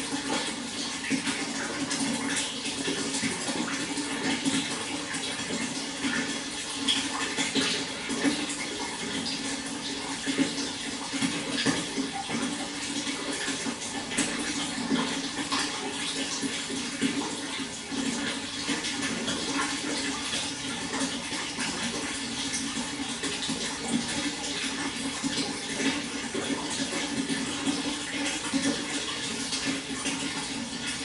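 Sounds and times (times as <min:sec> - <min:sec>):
flowing water splashing: 0:00.0 - 0:31.0.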